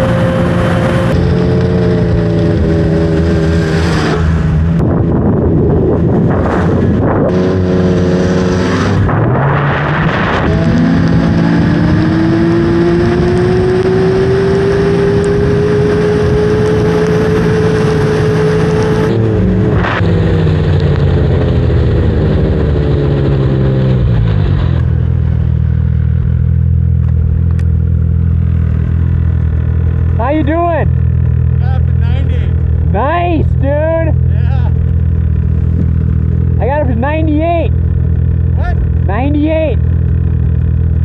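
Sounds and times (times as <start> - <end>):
snowmobile engine accelerating: 0.0 - 25.5, 26.1 - 41.0.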